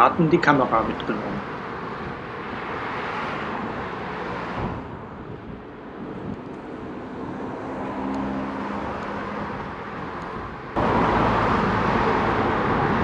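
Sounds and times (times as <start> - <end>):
car engine hum: 0.0 - 13.0
street traffic: 0.0 - 13.0
wind and road noise: 0.0 - 13.0.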